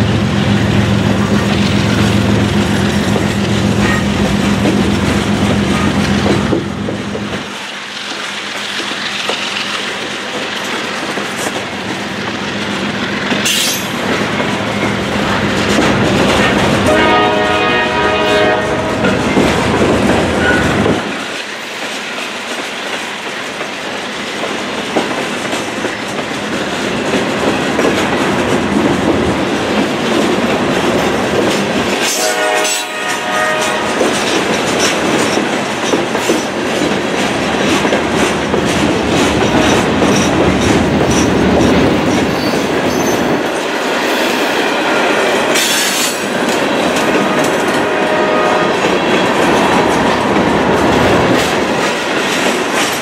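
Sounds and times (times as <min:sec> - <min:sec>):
train wheels rumbling and rattling: 0:00.0 - 0:53.0.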